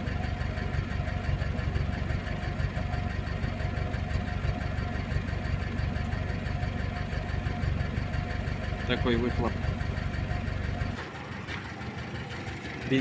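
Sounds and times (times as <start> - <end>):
car engine idling with clatter: 0.0 - 13.0.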